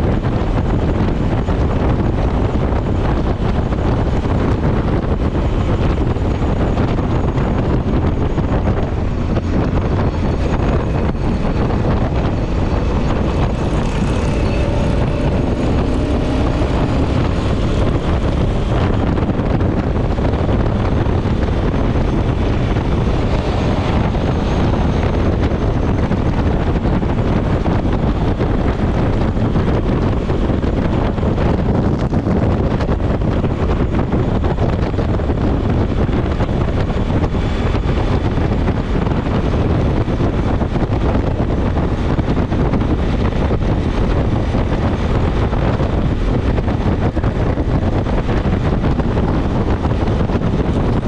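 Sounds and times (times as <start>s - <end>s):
motorcycle engine: 0.0s - 51.0s
road noise: 0.0s - 51.0s
wind rushing on microphone: 0.0s - 51.0s.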